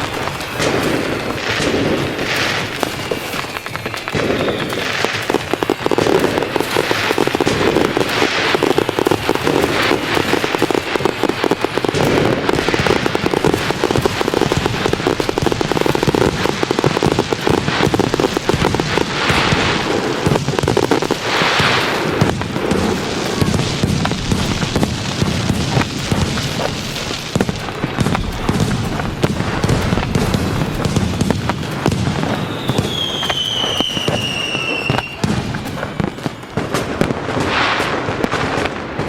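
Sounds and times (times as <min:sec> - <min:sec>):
fireworks crackling and banging: 0:00.0 - 0:39.0
fireworks hissing rushes: 0:00.0 - 0:39.0.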